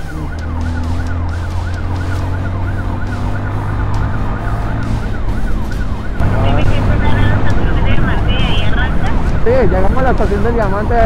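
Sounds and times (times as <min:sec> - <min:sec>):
fast yelping siren: 0:00.0 - 0:11.0
motorcycle engine droning: 0:00.0 - 0:11.0.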